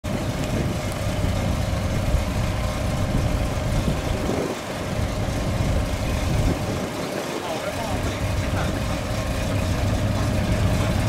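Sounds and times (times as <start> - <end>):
car engines low rumble: 0.0 - 11.0.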